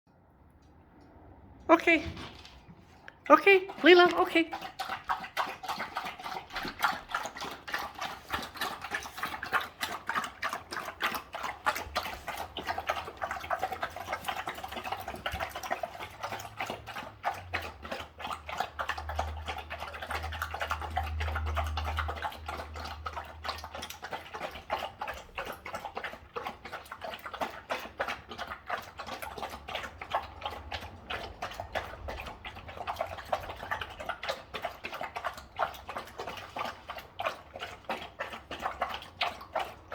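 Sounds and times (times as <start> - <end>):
dogs crunching and chewing food: 0.1 - 39.9.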